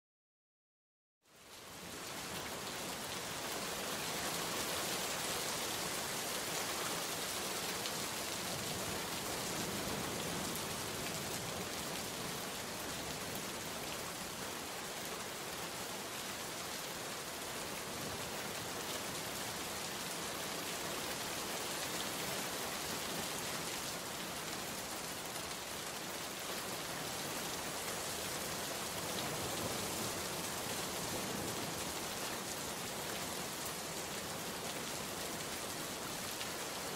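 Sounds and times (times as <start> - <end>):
rain pattering: 1.4 - 36.9.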